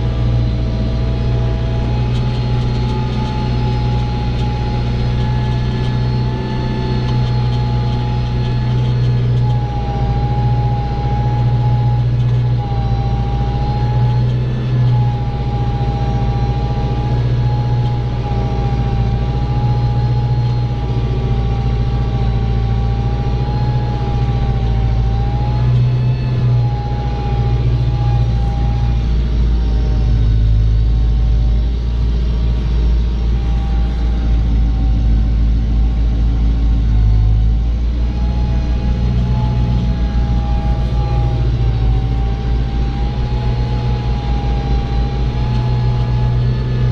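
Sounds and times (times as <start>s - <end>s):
high wavering whine: 0.0s - 46.9s
tractor diesel engine running: 0.0s - 46.9s.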